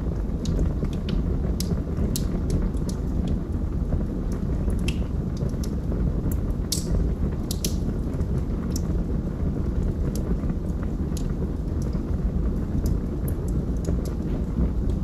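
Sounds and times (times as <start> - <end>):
log fire crackling and popping: 0.0 - 15.0
steady low rumble: 0.0 - 15.0.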